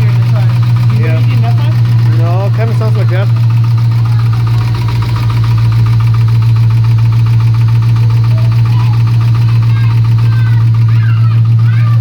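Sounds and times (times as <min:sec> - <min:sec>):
car engine running: 0:00.0 - 0:12.0
fast even engine knock: 0:00.0 - 0:12.0.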